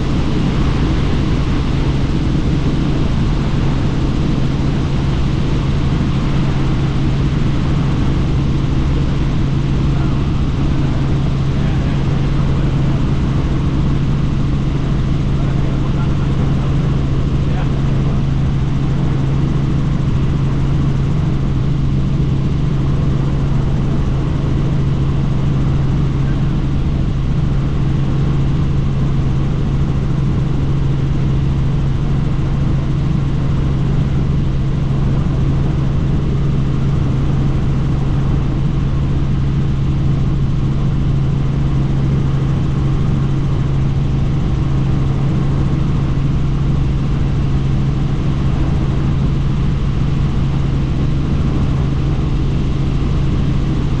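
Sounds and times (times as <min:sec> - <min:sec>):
helicopter rotor and turbine drone: 0:00.0 - 0:54.0.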